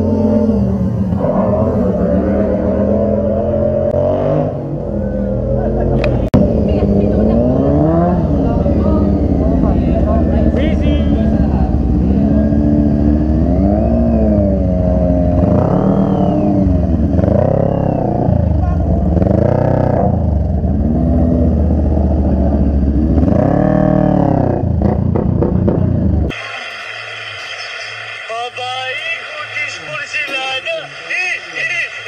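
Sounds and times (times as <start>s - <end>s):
motorcycle engine revving: 0.0s - 26.4s.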